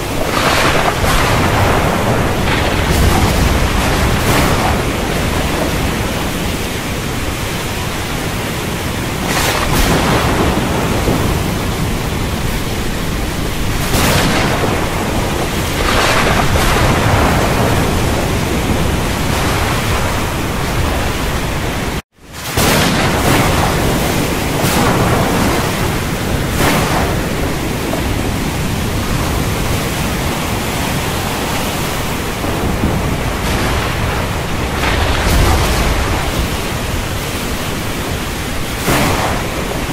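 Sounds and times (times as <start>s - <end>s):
rain hiss: 0.0s - 39.9s
thunder rumbling: 0.0s - 39.9s.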